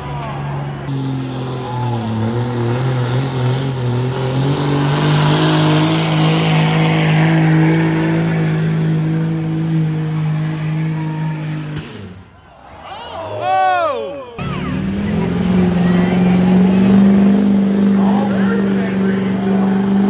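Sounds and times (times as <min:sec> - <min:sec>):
pulling tractor engine running hard: 0:00.0 - 0:12.0, 0:14.4 - 0:20.0.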